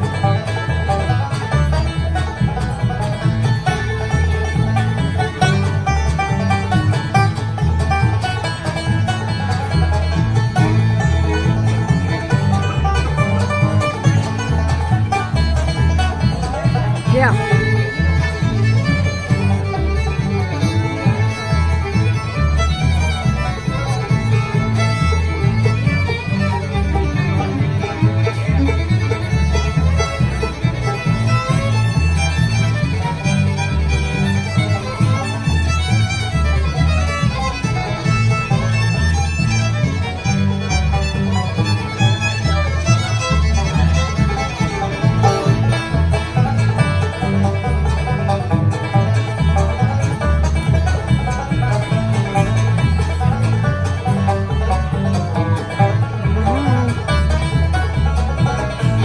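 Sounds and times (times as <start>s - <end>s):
banjo: 0.0s - 59.0s
bass line: 0.0s - 59.0s
fiddle: 0.0s - 59.0s
guitar: 0.0s - 59.0s.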